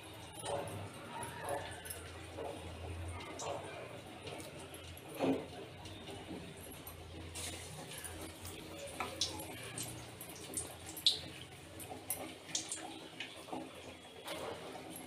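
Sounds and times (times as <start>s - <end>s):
fritters frying in sizzling oil: 0.0s - 15.0s.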